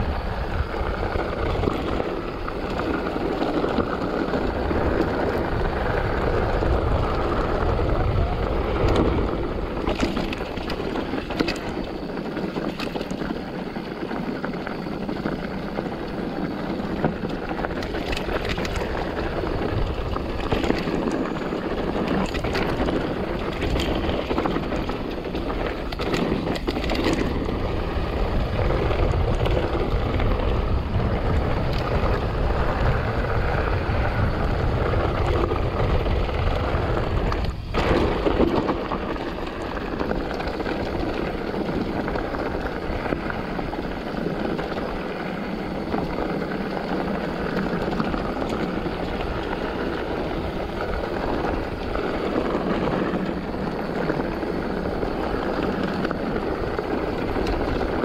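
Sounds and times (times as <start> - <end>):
bike tyres rattling on dirt: 0.0 - 58.0
wind rumbling on microphone: 0.0 - 58.0.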